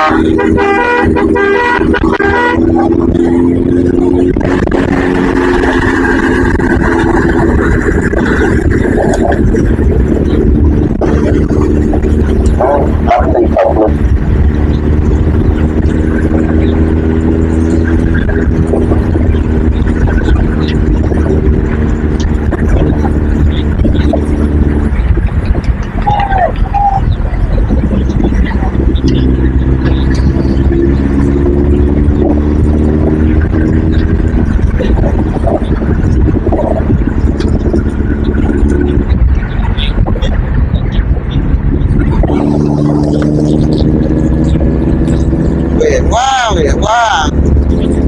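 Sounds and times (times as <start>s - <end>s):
road and wind rumble: 0.0s - 48.0s
vehicle engine droning: 0.0s - 48.0s.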